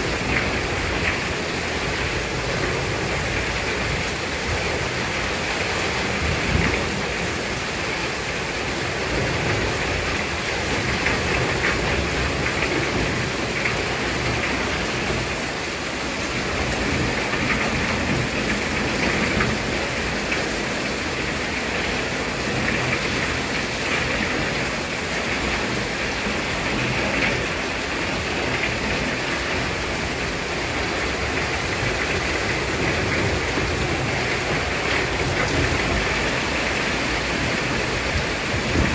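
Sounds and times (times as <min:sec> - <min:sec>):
heavy rain pouring: 0:00.0 - 0:38.9
strong wind: 0:00.0 - 0:38.9.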